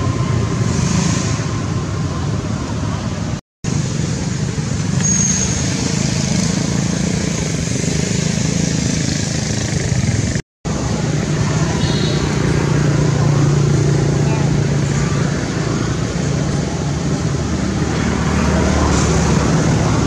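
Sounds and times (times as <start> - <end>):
motor traffic: 0.0 - 20.0.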